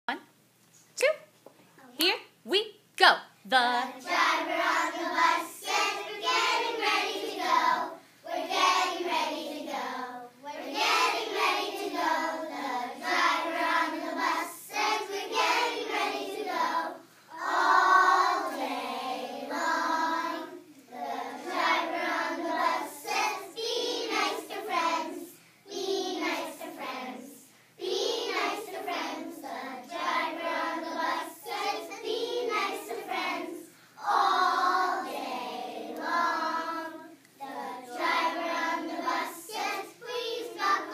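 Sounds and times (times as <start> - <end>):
children singing in unison: 4.0 - 40.9.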